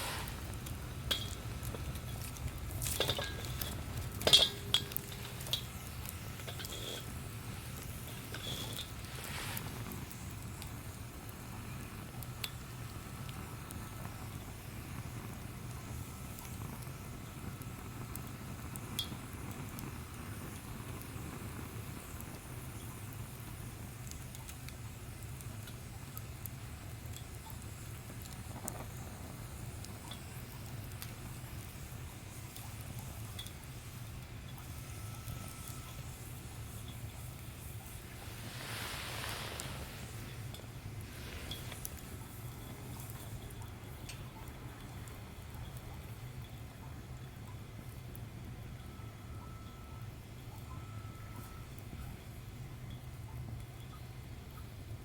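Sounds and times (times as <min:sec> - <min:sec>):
steady low hum: 0:00.0 - 0:24.0, 0:27.8 - 0:54.9
wood fire crackling: 0:00.0 - 0:49.4, 0:50.0 - 0:55.0.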